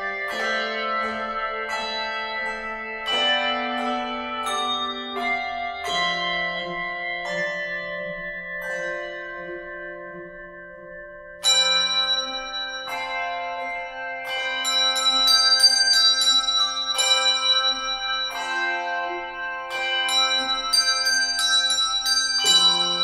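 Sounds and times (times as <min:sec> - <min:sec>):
handbell choir ringing chords: 0:00.0 - 0:23.0.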